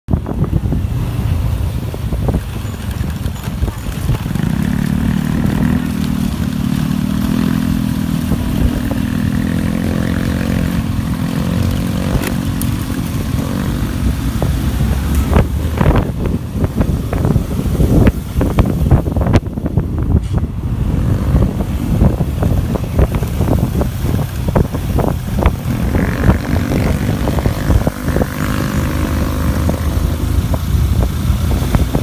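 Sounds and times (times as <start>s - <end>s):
motorcycle engine running: 0.1s - 20.2s, 20.8s - 32.0s.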